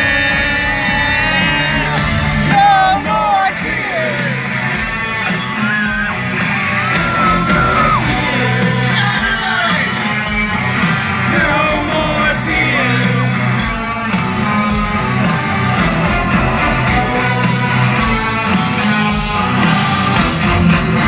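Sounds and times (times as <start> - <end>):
heavy rock band playing live: 0.0 - 21.0.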